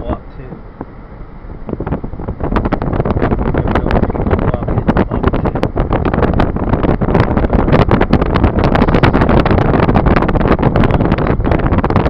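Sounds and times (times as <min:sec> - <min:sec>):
car road noise: 0:00.0 - 0:12.0
wind buffeting microphone: 0:00.0 - 0:12.0.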